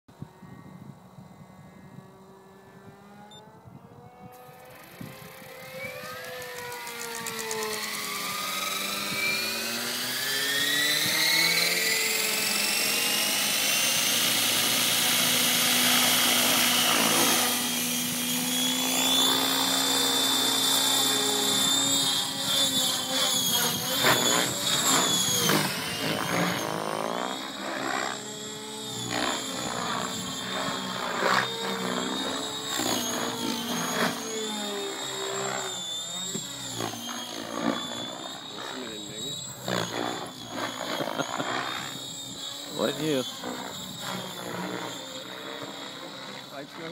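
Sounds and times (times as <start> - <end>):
model helicopter motor whine: 0.1 - 46.9.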